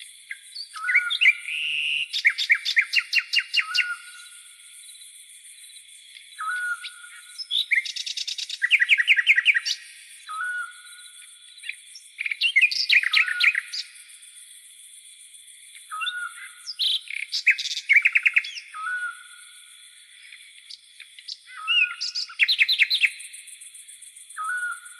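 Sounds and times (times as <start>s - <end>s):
birds whistling and trilling: 0.0s - 14.4s, 15.7s - 24.9s
crickets humming: 0.0s - 24.9s.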